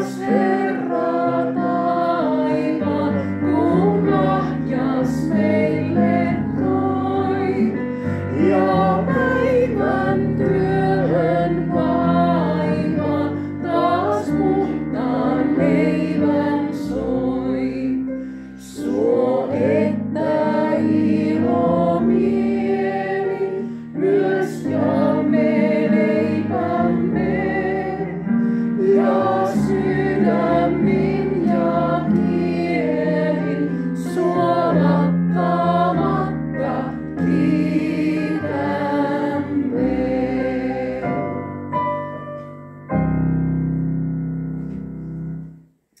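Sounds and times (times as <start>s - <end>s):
group singing a hymn: 0.0s - 41.6s
piano chords: 0.0s - 45.7s.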